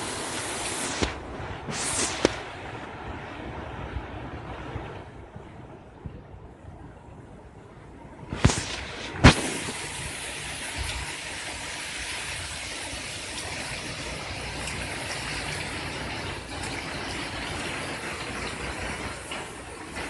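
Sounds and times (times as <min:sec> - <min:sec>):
wind and rain rushing: 0:00.0 - 0:20.0.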